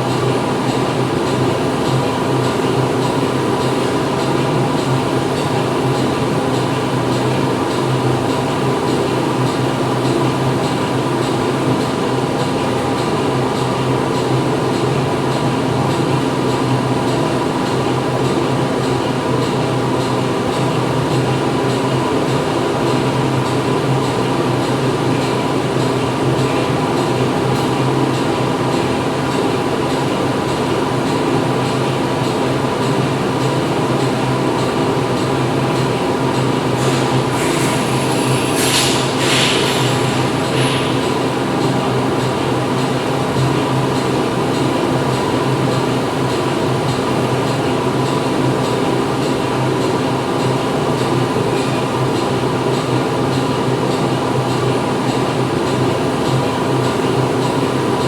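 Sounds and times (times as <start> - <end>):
factory machinery drone: 0.0 - 58.0.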